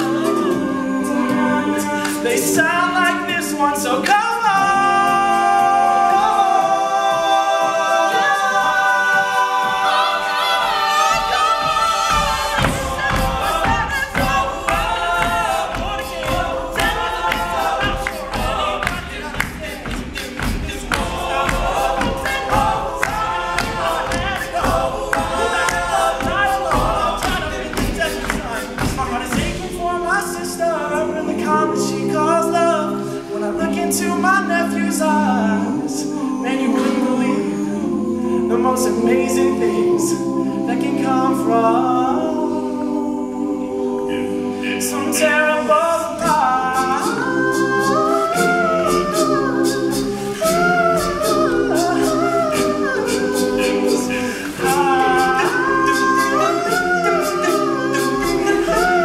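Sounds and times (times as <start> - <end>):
men singing a cappella: 0.0 - 59.0
vocal percussion beat: 0.0 - 59.0.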